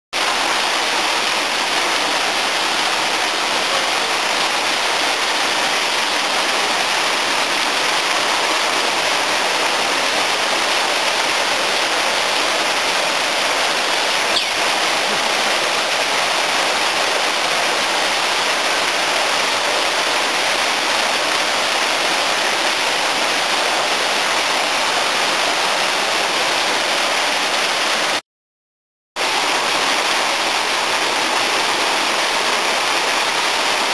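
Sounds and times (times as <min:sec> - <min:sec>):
running water rushing: 0:00.2 - 0:28.2, 0:29.2 - 0:33.9.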